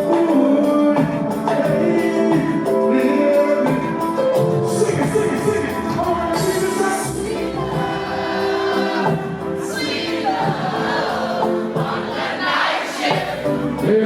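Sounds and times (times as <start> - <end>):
person singing: 0.0 - 11.6, 13.2 - 14.0
live reggae band music: 0.0 - 14.0.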